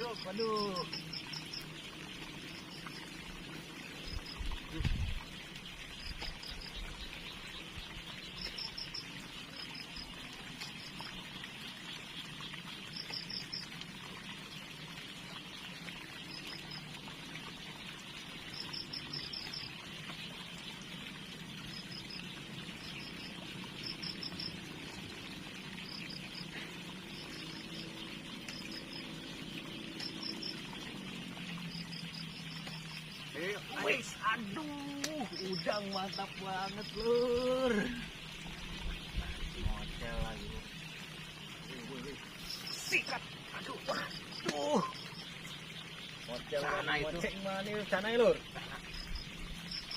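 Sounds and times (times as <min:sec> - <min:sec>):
water trickling in a stream: 0:00.0 - 0:49.9.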